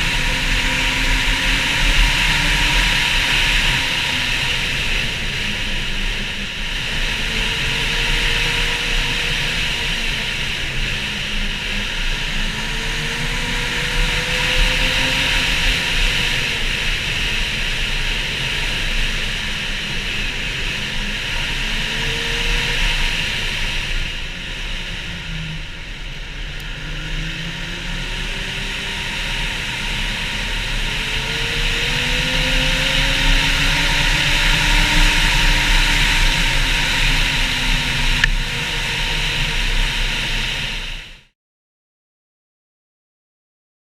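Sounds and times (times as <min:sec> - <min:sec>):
snowmobile engine revving: 0:00.0 - 0:41.0.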